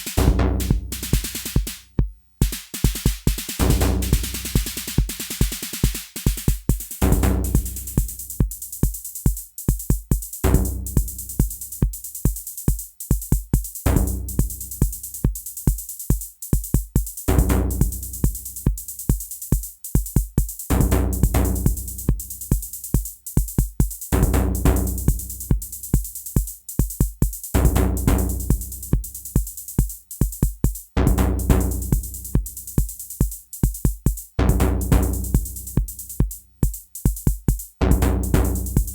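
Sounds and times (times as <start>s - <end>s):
drum machine bass drum and hi-hat: 0.0s - 38.9s.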